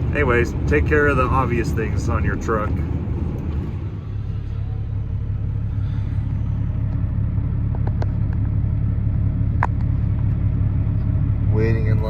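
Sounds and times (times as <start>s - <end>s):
truck engine drone in cab: 0.0s - 12.0s.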